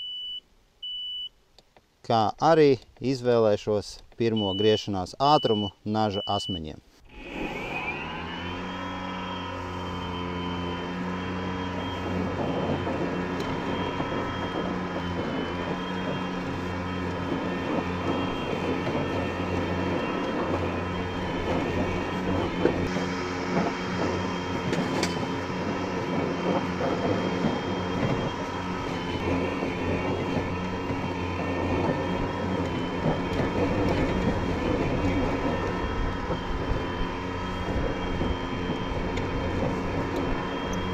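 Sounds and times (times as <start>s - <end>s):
electric motor whine: 7.0s - 40.9s
rush of spinning mower blades: 7.0s - 40.9s.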